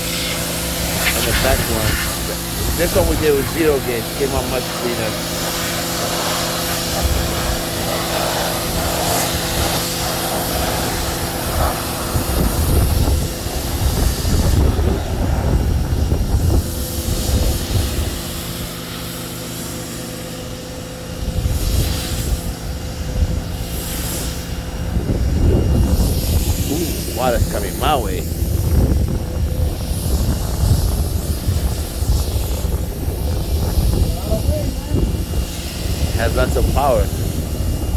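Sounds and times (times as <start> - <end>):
wind rumble on microphone: 0.0 - 18.8, 20.5 - 37.9
pressure washer spraying: 0.0 - 20.5, 21.5 - 22.5, 23.6 - 37.9
electric pressure washer motor humming: 0.0 - 37.9.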